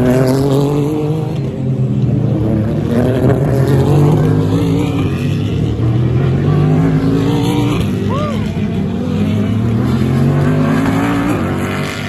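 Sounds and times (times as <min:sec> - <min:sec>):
race car engines accelerating: 0:00.0 - 0:12.0.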